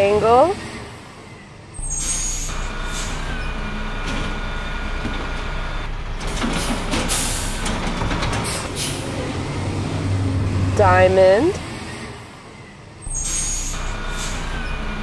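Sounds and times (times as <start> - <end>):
garbage truck engine running: 0.0 - 15.0.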